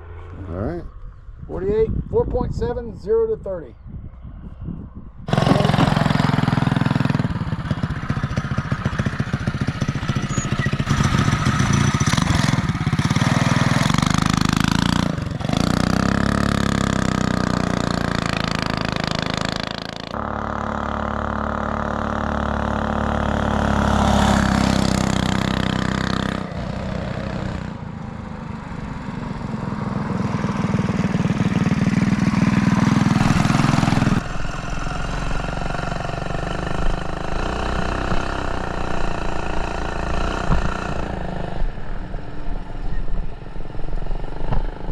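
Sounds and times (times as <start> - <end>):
mini bike engine revving: 5.3 - 27.8, 28.4 - 42.2.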